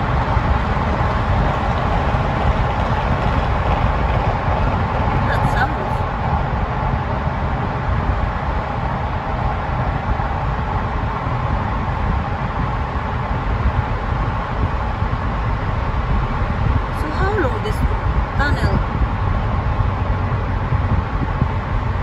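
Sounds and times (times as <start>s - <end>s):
car engine noise: 0.0s - 22.0s
road and tyre rumble: 0.0s - 22.0s.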